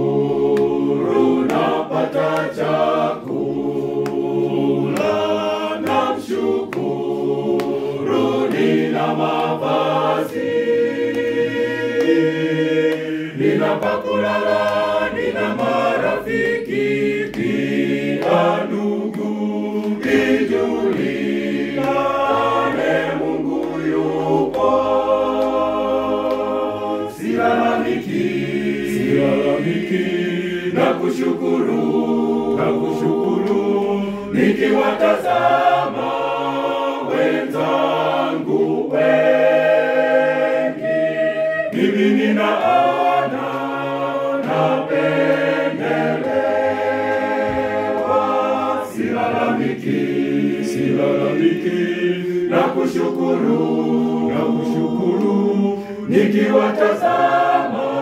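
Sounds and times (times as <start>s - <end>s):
mixed choir singing a cappella: 0.0s - 58.0s.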